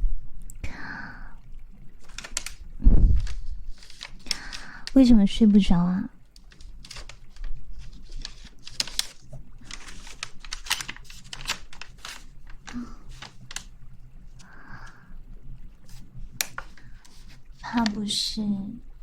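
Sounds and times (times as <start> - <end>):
crinkling and clicking objects: 2.0 - 15.0, 15.8 - 18.2.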